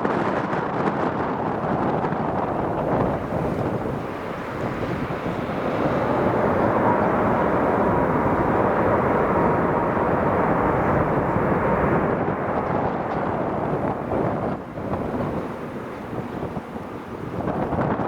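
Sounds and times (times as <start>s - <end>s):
wind buffeting microphone: 0.0s - 18.0s
jet airliner passing overhead: 0.5s - 18.0s.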